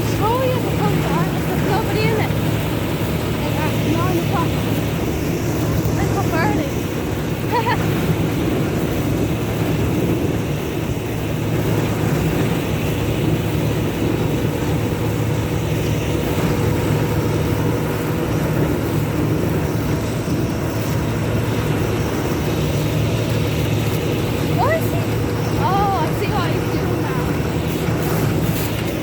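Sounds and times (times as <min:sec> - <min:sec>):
combine harvester droning: 0:00.0 - 0:29.0.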